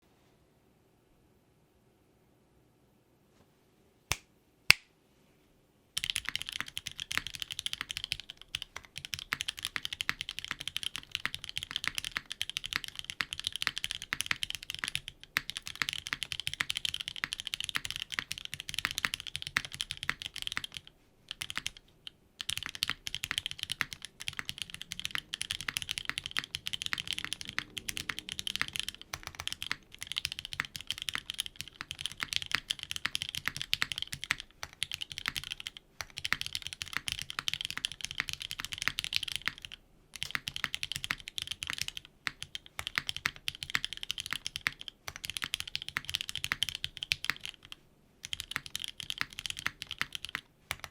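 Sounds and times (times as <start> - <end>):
fast mechanical keyboard typing: 6.0 - 50.9.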